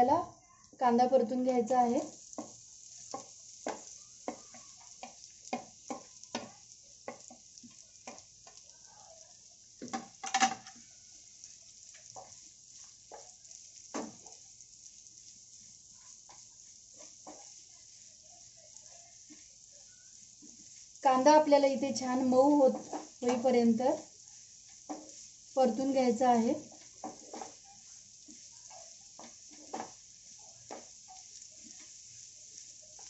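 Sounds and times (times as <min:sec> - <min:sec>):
onions sizzling in oil: 0:00.0 - 0:33.0
spatula scraping a pan: 0:01.5 - 0:33.0.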